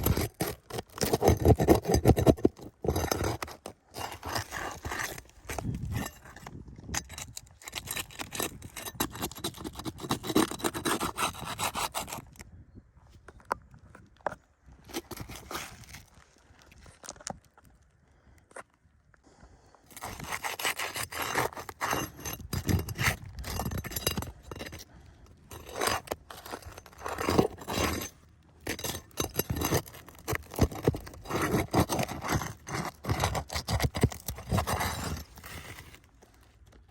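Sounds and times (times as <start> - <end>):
scraping on roof shingle: 0.0 - 12.4, 13.9 - 16.9, 19.9 - 36.9.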